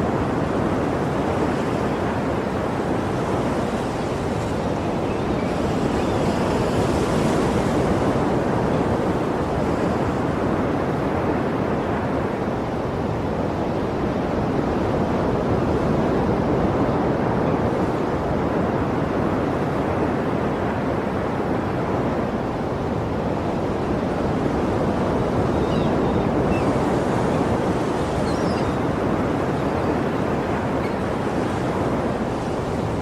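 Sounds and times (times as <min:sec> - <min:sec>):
sea waves washing: 0:00.0 - 0:33.0.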